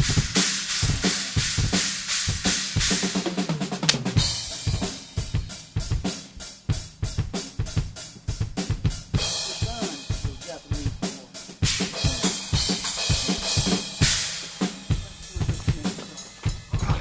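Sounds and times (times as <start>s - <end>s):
fast drum-kit beat: 0.0s - 17.0s.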